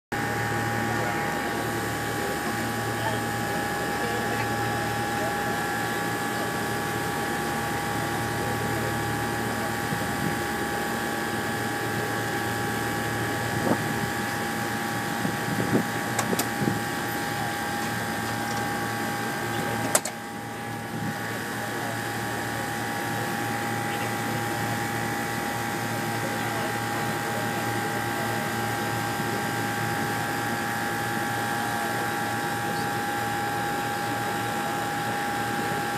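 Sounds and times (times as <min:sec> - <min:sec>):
constant high whine: 0:00.1 - 0:35.9
ferry engines droning: 0:00.1 - 0:35.9.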